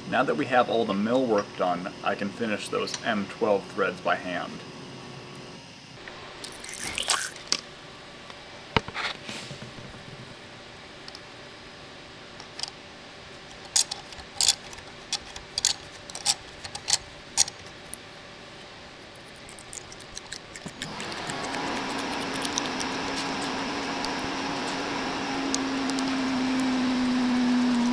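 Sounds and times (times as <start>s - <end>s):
mechanical hum with whine: 0.0s - 27.9s.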